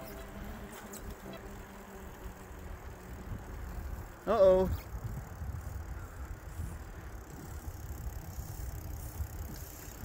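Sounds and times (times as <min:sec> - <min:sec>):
bicycle tyres rumbling on bumpy road: 0:00.0 - 0:10.0.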